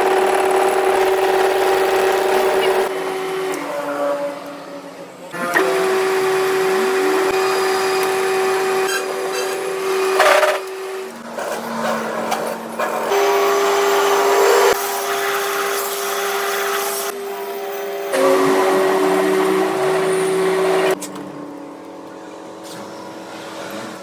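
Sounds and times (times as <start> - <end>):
power tool motor whining: 0.0 - 24.0.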